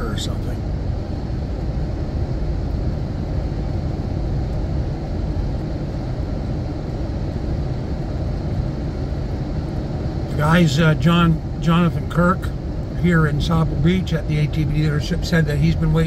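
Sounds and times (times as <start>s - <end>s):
truck cruising on highway: 0.0s - 16.0s.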